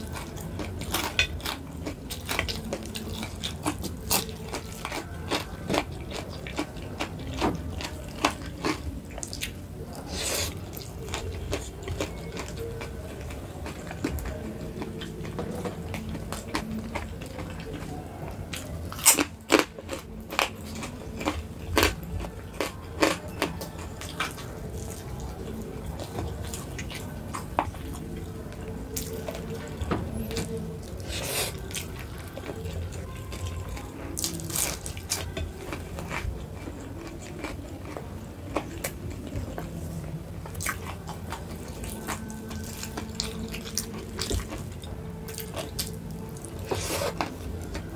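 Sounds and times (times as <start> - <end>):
person chewing and crunching: 0.0 - 47.9.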